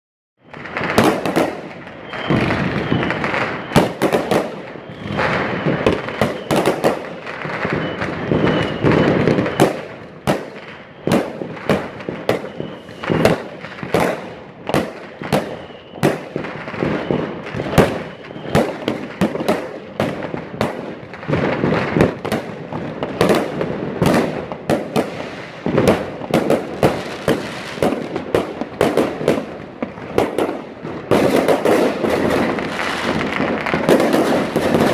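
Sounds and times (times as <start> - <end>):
continuous fireworks crackling: 0.4 - 34.9
fireworks bangs: 0.4 - 34.9.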